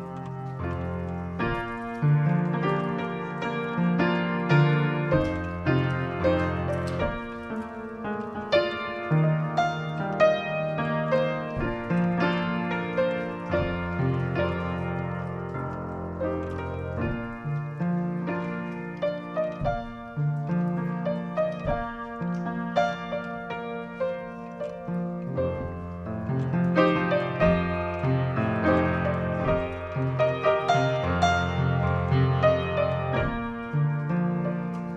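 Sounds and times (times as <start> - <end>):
slow gentle piano piece: 0.0 - 34.9.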